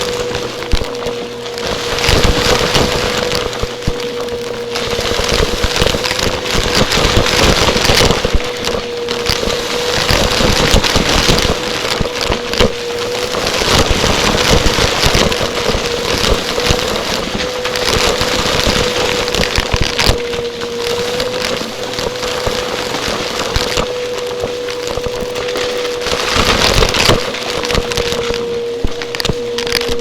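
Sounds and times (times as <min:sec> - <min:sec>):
debris crackling and clicking: 0:00.0 - 0:30.0
vacuum cleaner motor humming: 0:00.0 - 0:30.0.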